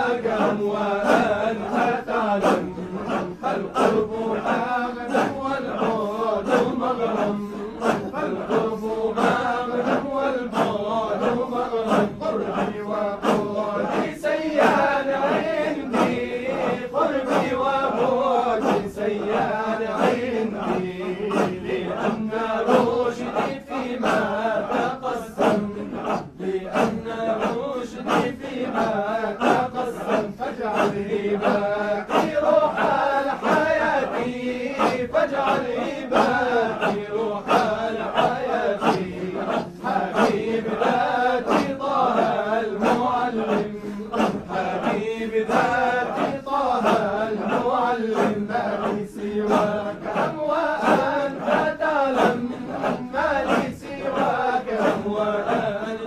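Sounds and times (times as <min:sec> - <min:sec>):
man singing: 0:00.0 - 0:56.0
men chanting rhythmically: 0:00.0 - 0:56.0.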